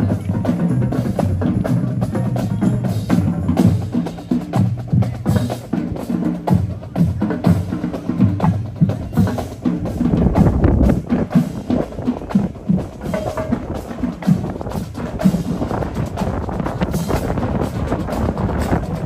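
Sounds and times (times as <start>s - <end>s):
bass drums: 0.0s - 19.0s
snare drums: 0.0s - 19.0s.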